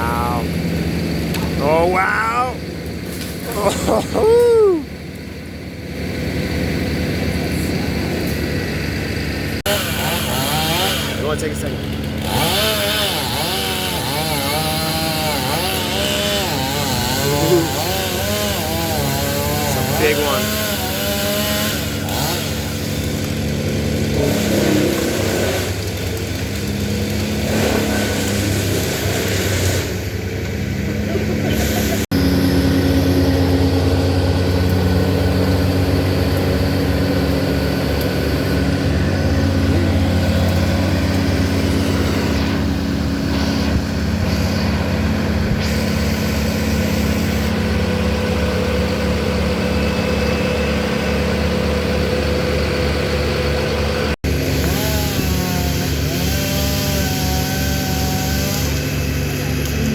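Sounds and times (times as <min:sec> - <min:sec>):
machinery engine running: 0:00.0 - 0:59.9.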